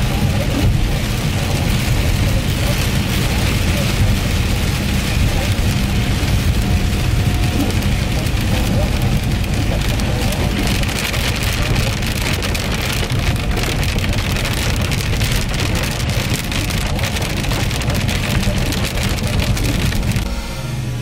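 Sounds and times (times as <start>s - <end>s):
heavy rain pelting a car: 0.0s - 21.0s
low road rumble: 0.0s - 21.0s.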